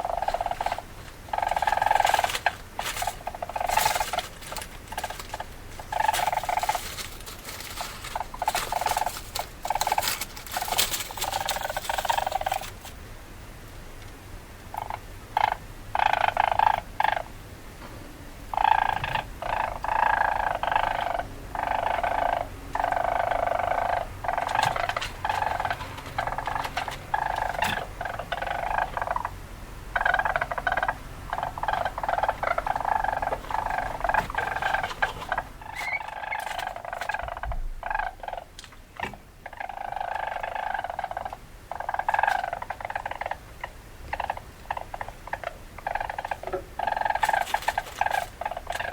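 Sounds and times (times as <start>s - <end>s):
weasel calls: 0.0s - 12.8s, 14.7s - 17.3s, 18.5s - 48.9s.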